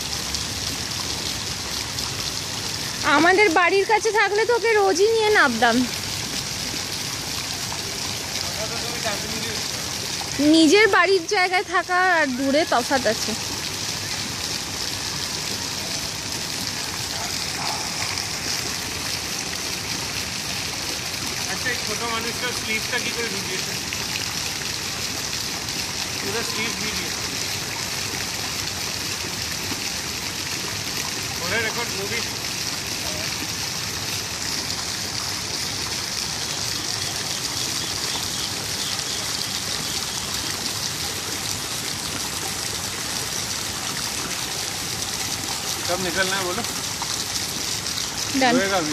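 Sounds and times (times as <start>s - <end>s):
fountain water jets splashing: 0.0s - 48.9s.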